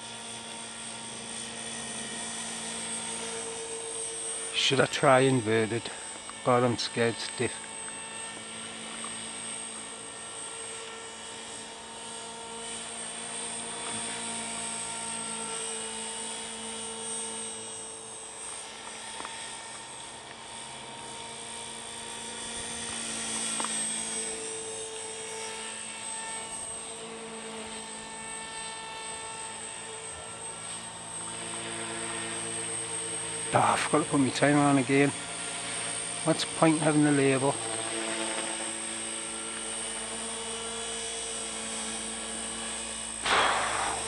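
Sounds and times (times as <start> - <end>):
rc helicopter motor whine: 0.0 - 44.0
rotor blades whirring: 0.0 - 44.0.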